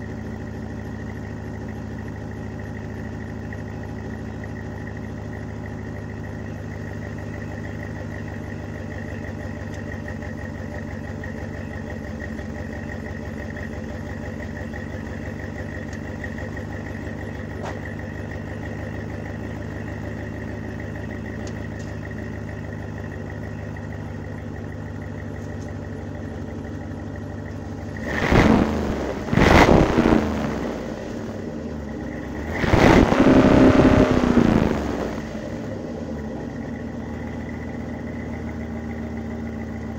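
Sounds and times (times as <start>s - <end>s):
car exhaust idling and revving: 0.0s - 39.9s.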